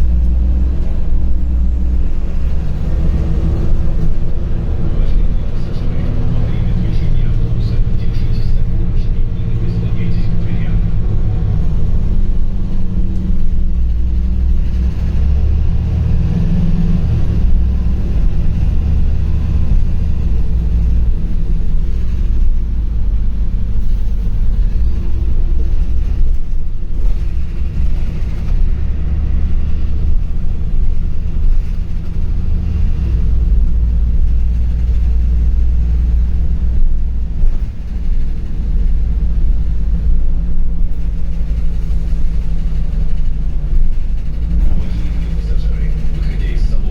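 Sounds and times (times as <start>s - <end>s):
bus engine and road rumble: 0.0s - 46.9s.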